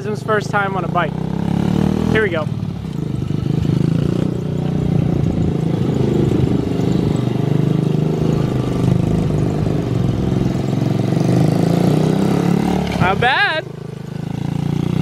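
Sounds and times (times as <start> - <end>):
mini bike engine running: 0.1 - 15.0.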